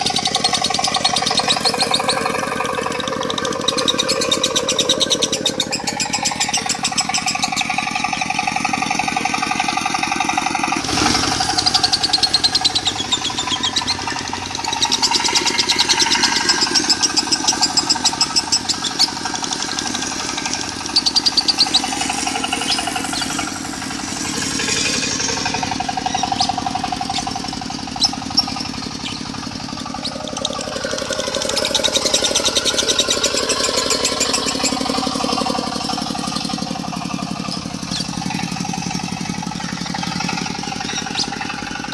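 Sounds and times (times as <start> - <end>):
birds trilling: 0.0 - 41.9
diesel engine idling: 0.0 - 41.9.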